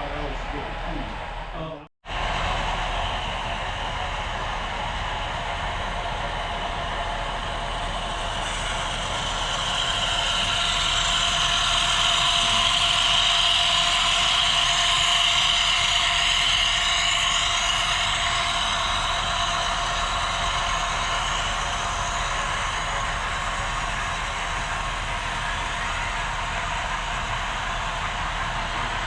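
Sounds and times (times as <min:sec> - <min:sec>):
model train running: 0:02.1 - 0:29.0.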